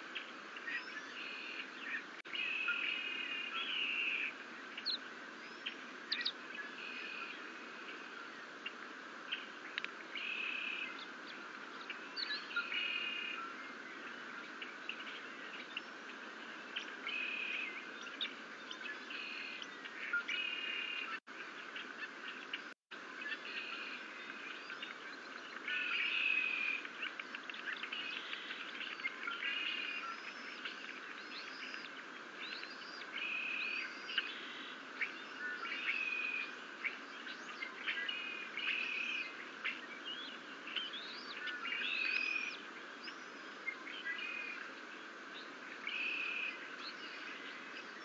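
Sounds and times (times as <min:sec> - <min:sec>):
background hiss: 0:00.0 - 0:48.0
birds chirping: 0:00.0 - 0:48.0.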